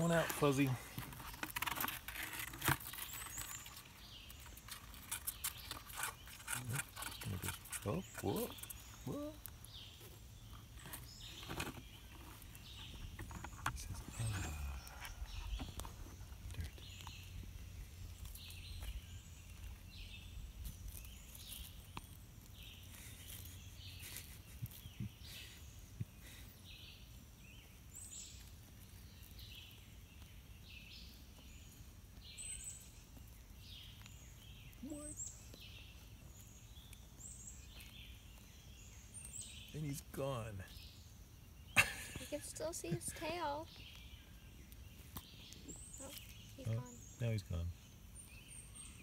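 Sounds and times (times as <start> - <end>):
bird chirping: 0.0 - 49.0.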